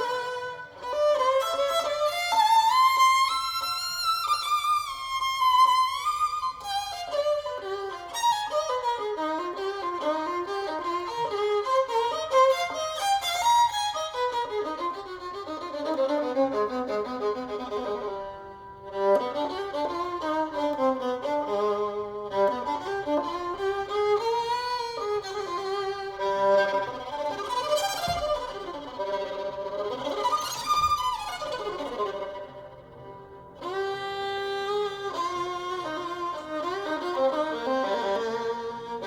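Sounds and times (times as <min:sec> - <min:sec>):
violin melody with sliding notes: 0:00.0 - 0:39.0.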